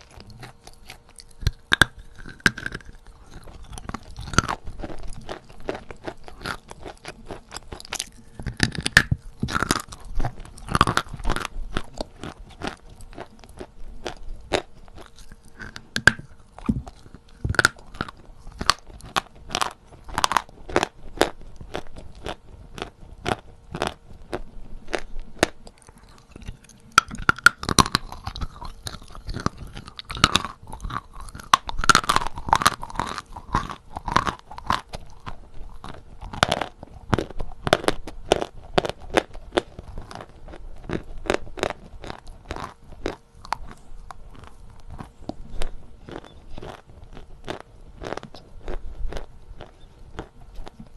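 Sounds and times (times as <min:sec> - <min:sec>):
person crunching chalk: 0:00.0 - 0:50.9.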